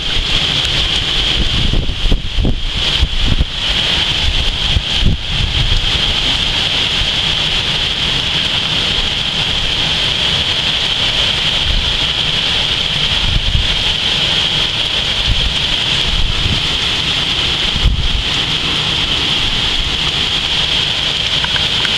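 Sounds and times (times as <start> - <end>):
rain hissing: 0.0 - 21.9
wind gusts buffeting microphone: 0.0 - 21.9.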